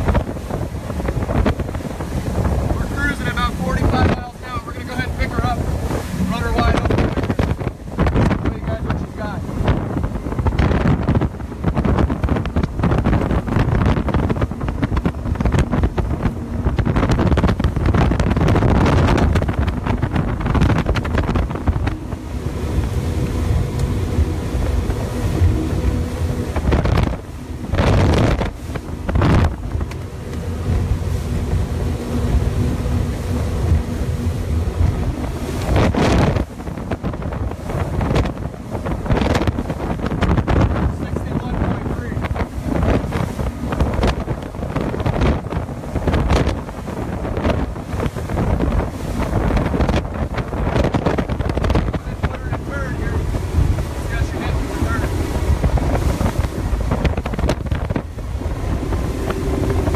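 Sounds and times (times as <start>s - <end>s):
outboard engine drone: 0.0s - 59.9s
wind buffeting microphone: 0.0s - 59.9s.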